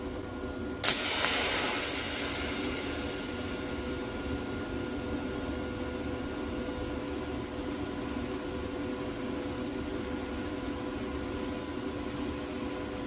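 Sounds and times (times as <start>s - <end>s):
welding arc hissing and humming: 0.8s - 13.0s.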